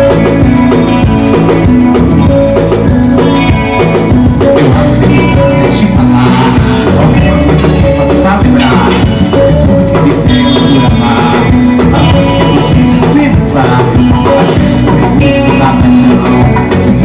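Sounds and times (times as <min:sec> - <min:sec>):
congas: 0:00.0 - 0:17.0
drum kit: 0:00.0 - 0:17.0
electric guitar: 0:00.0 - 0:17.0
live band playing amplified music: 0:00.0 - 0:17.0.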